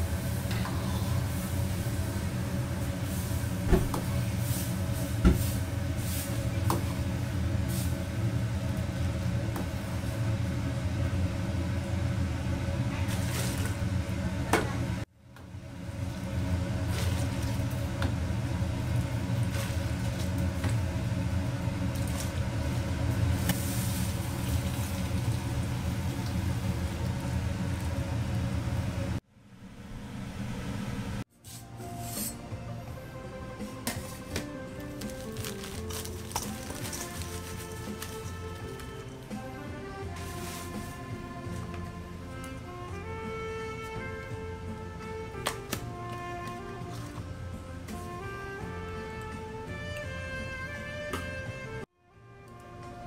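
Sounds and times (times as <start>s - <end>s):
gas burner roaring: 0.0s - 53.0s.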